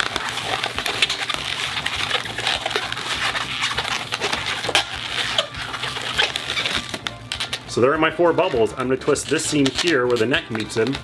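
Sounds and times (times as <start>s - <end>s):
balloon squeaking and rubbing: 0.0s - 11.0s.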